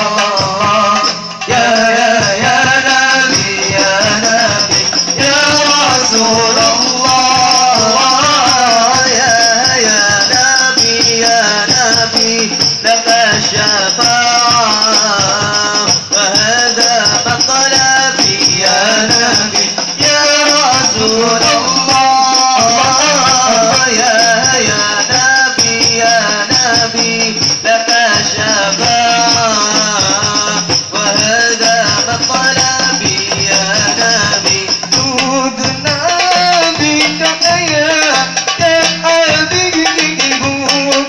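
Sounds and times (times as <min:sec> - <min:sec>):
frame drums beating: 0:00.0 - 0:41.0
man singing: 0:00.0 - 0:41.0.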